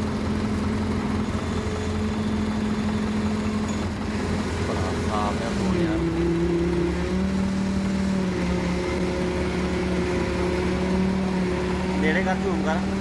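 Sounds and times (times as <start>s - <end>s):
crane diesel engine running: 0.0s - 13.0s.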